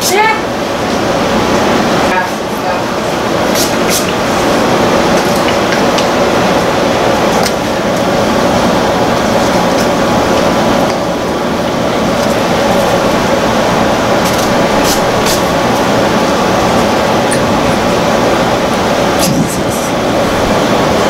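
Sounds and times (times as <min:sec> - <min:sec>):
air conditioner fan noise: 0:00.0 - 0:21.0.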